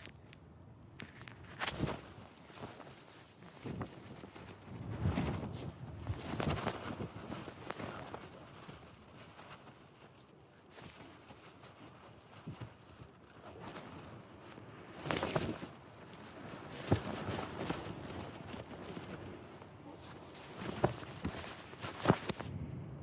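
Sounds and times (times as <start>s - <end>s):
tent fabric snapping: 1.4s - 4.6s, 5.2s - 22.5s.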